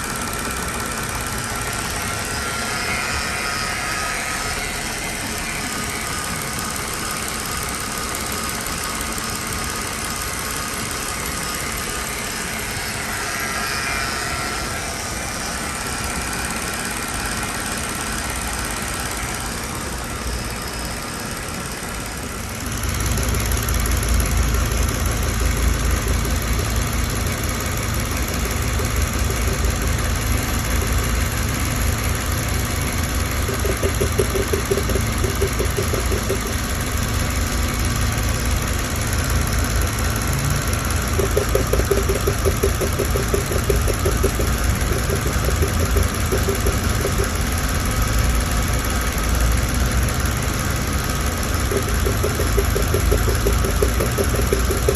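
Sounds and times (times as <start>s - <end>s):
pulsing hum: 0.0s - 7.8s, 10.8s - 37.1s, 40.8s - 47.6s, 51.5s - 54.9s
car engine idling: 0.0s - 54.9s.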